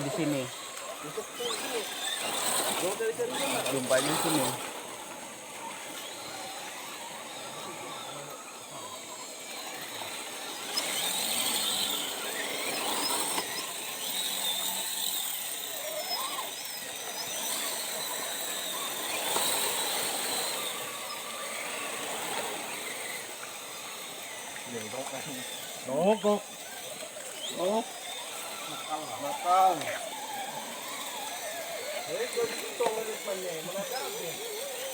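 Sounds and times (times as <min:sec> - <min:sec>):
electric motor whining: 0:00.0 - 0:34.9.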